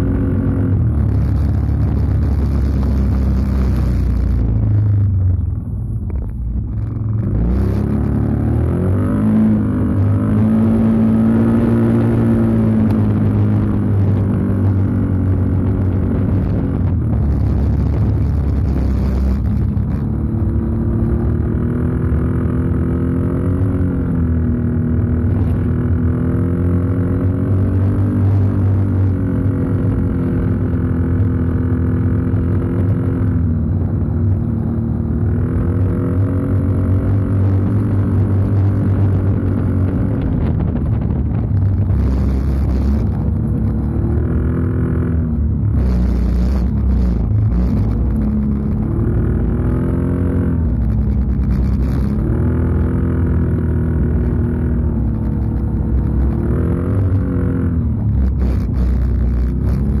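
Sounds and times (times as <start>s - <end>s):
atv engine revving: 0.0s - 5.4s, 6.1s - 60.0s.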